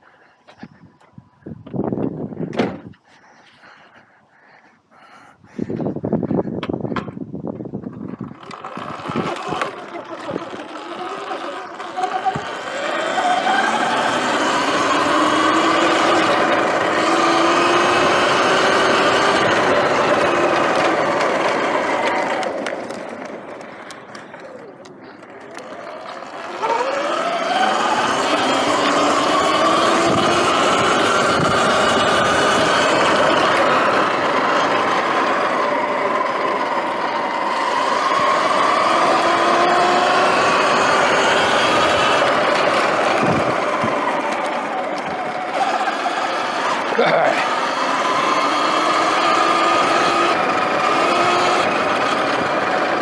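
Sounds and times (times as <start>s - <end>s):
wind and tyre noise: 0.0s - 53.0s
electric motor whine: 8.1s - 53.0s.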